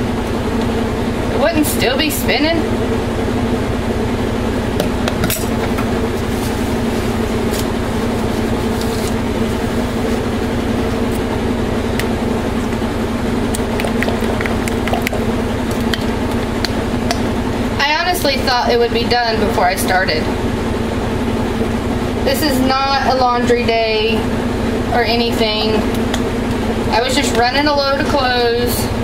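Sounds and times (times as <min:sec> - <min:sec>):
washing machine spin hum: 0:00.0 - 0:29.0.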